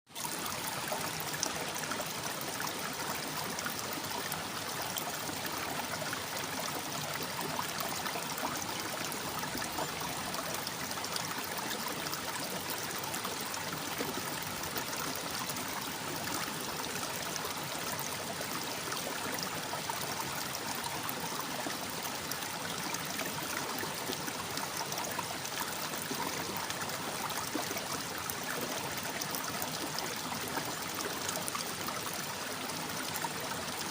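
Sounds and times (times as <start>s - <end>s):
water running and babbling: 0.1s - 33.9s.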